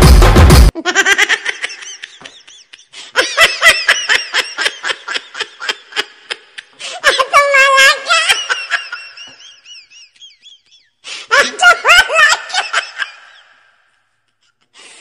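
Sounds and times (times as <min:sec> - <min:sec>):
person laughing: 0:00.6 - 0:13.8.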